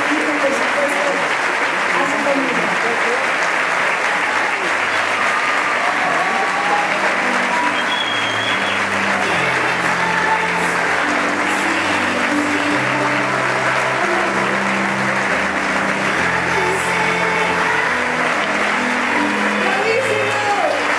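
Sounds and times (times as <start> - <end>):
large audience applauding: 0.0 - 20.9.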